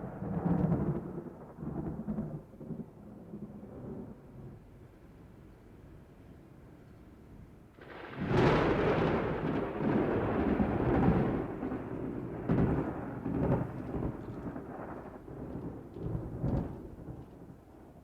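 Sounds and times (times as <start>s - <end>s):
thunder rumbling: 0.0s - 4.6s, 7.8s - 18.0s.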